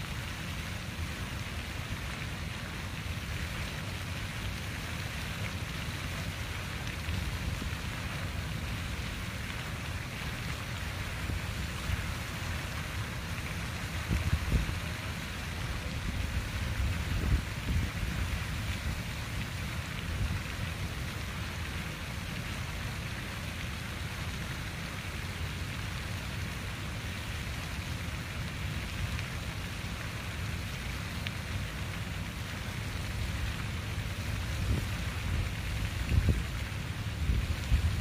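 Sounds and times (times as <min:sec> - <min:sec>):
water fountain splashing: 0:00.0 - 0:38.0.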